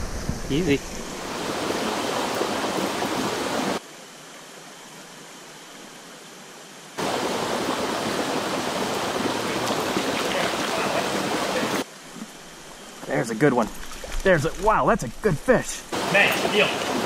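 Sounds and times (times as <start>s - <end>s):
forest stream rushing: 0.0s - 17.0s.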